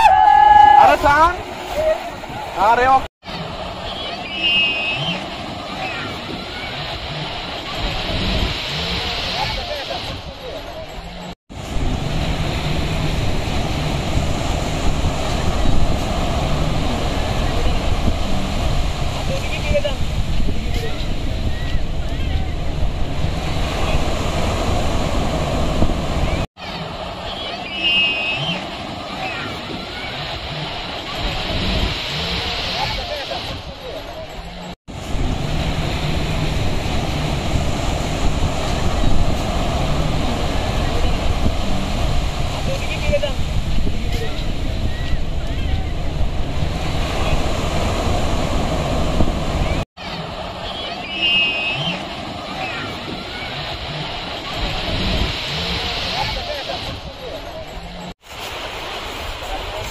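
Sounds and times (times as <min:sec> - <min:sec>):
breaking surf: 0:00.0 - 0:59.9
wind rumble on microphone: 0:05.0 - 0:27.2, 0:28.4 - 0:50.7, 0:51.8 - 0:59.9.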